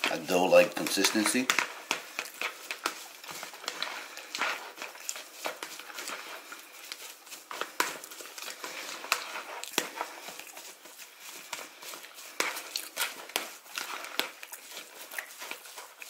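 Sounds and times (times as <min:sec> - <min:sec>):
fork scraping a bowl: 0:00.0 - 0:16.0
wet stirring: 0:00.0 - 0:16.0.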